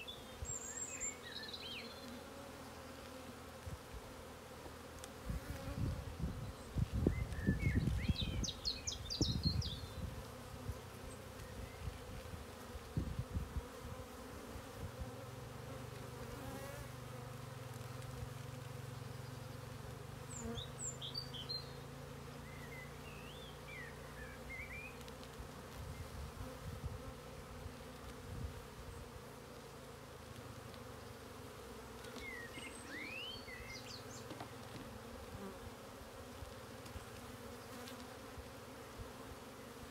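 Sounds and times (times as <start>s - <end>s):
honeybees humming: 0.0s - 39.9s.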